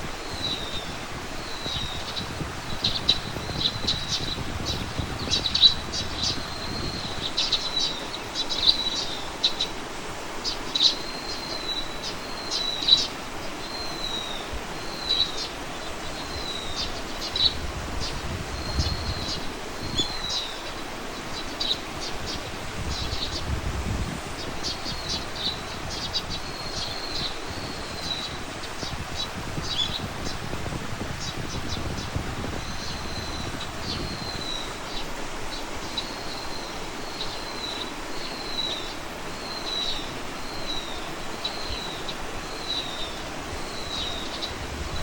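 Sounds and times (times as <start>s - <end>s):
small birds chirping: 0.1s - 45.0s.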